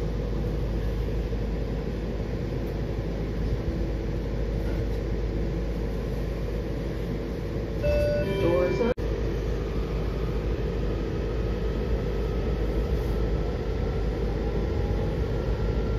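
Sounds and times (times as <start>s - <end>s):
train low rumble: 0.0s - 15.9s.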